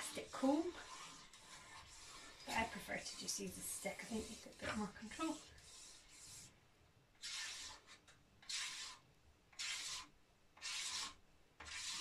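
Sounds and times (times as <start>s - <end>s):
wooden stick dragged through foam: 0.0s - 6.6s, 7.2s - 12.0s.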